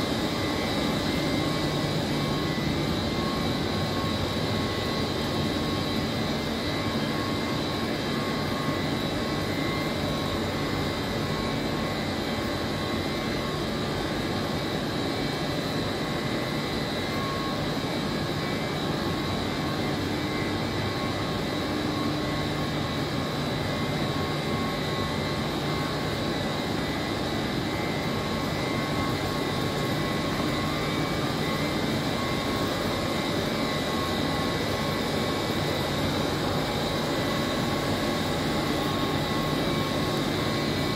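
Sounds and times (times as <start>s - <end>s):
chiller plant humming: 0.0s - 40.9s
thin steady whining tones: 0.0s - 40.9s.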